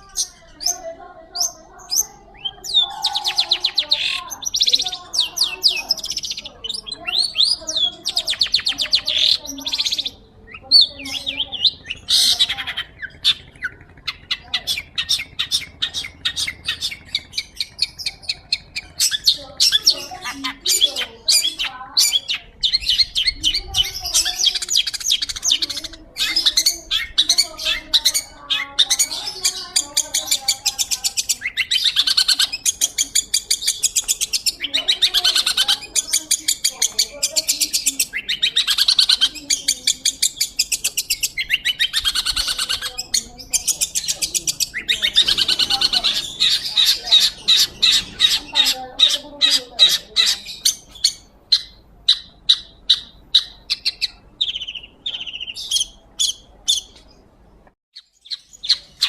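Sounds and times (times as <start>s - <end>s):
shrike singing: 0.0s - 57.3s
bird chattering song: 0.0s - 59.0s.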